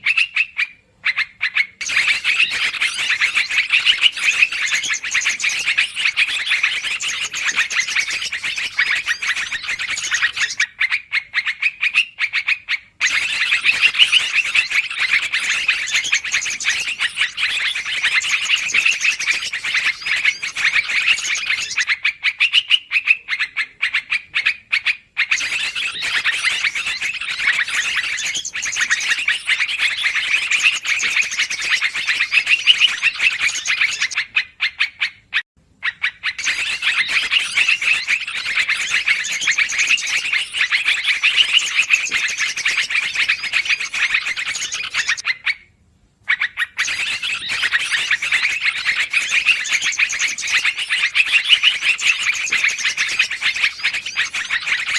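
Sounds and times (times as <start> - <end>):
birds chirping and chattering: 0.0 - 45.6, 46.3 - 54.9.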